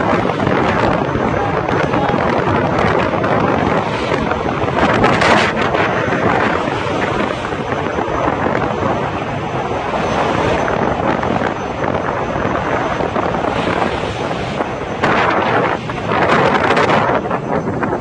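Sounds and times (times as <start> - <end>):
strong wind and water rushing: 0.0 - 18.0.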